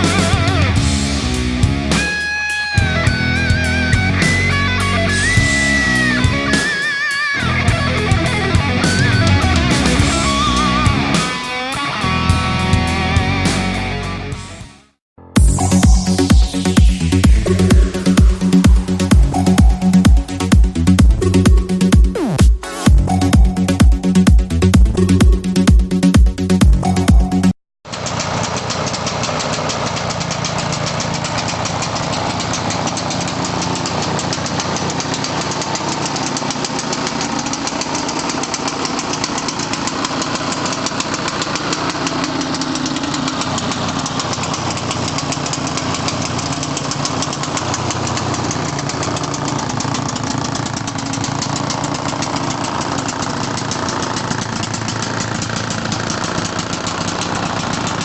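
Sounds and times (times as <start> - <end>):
snowmobile engine running: 0.0 - 14.0, 15.4 - 58.0.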